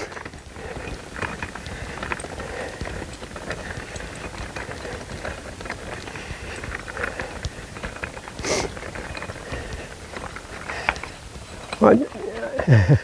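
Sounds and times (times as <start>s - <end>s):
footsteps: 0.0s - 13.0s
wagon wheels rumbling: 0.0s - 13.0s.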